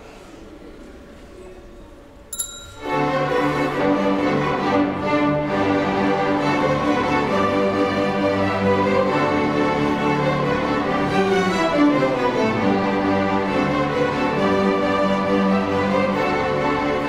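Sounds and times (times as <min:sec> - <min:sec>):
string ensemble playing: 0:02.8 - 0:17.0.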